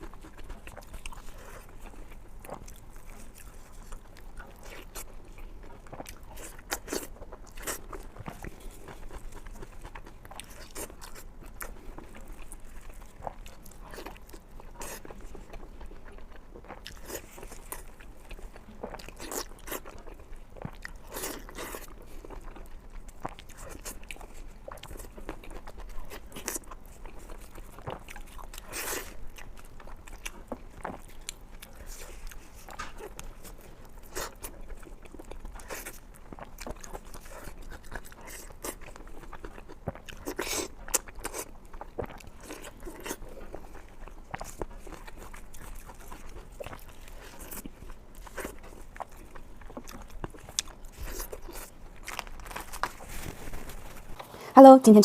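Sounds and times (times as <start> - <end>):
crunchy bites and chewing: 0.0 - 54.4.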